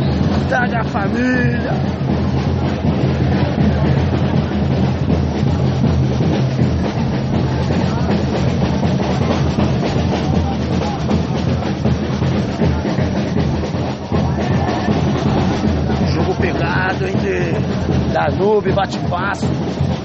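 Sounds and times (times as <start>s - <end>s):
heavy low drums: 0.0s - 20.0s
samba drums playing: 0.0s - 20.0s.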